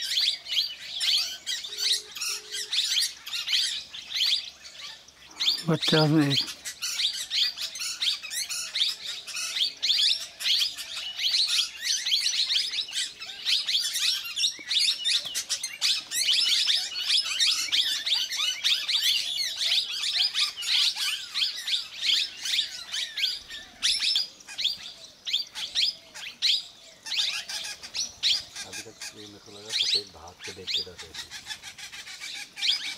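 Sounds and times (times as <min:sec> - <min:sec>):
parakeets chirping: 0:01.0 - 0:32.9.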